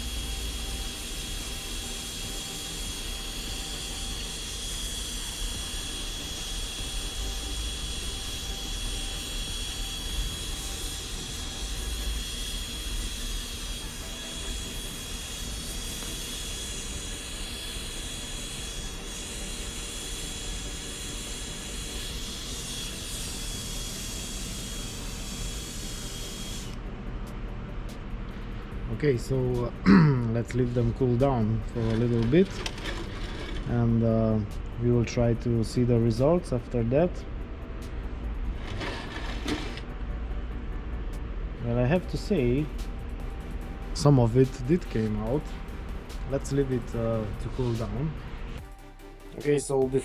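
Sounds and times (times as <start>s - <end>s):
blowtorch flame hissing: 0.0s - 26.8s, 29.0s - 34.6s, 42.0s - 50.0s.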